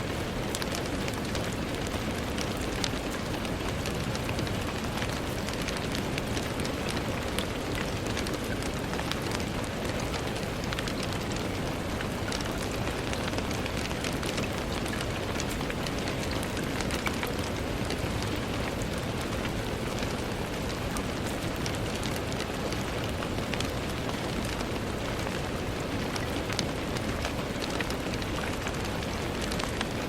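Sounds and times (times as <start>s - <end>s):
rain falling: 0.0s - 30.0s
raindrops ticking on a surface: 0.0s - 30.0s.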